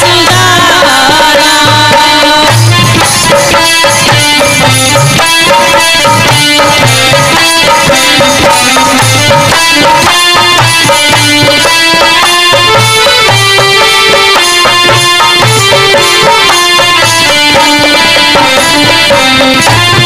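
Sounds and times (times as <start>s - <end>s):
held-note melody: 0.0s - 20.0s
percussion with deep bass beats: 0.0s - 20.0s.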